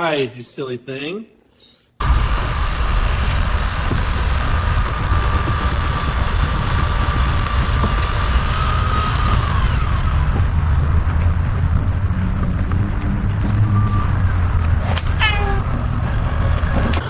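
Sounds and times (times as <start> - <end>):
high-pitched machine whine: 2.0 - 17.0
machine rumbling: 2.0 - 17.0.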